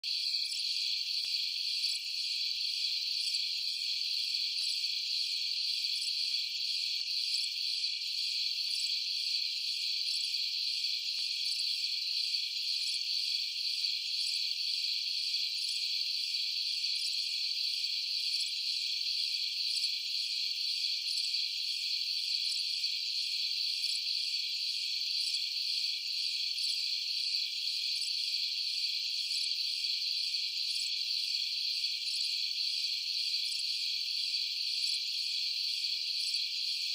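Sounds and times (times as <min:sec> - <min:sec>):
crickets trilling: 0:00.1 - 0:36.9.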